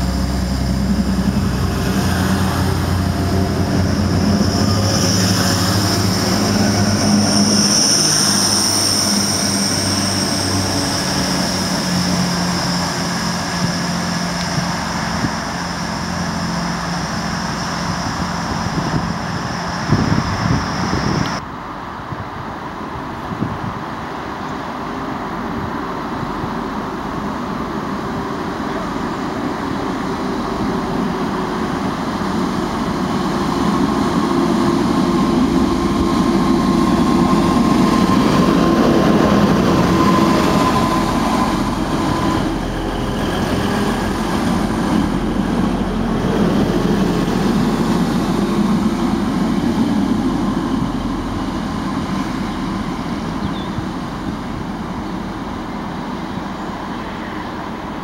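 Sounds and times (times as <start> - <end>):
diesel train passing: 0.0 - 58.0.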